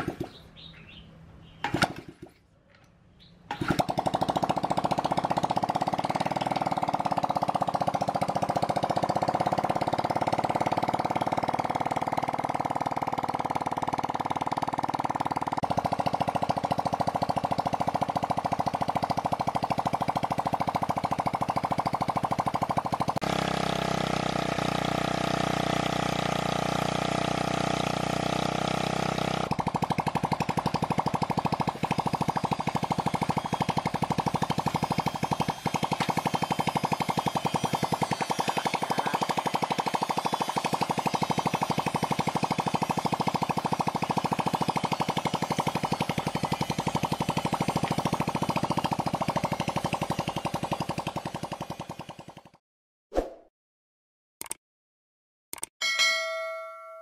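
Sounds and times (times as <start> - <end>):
small motorcycle engine running: 3.5 - 52.6.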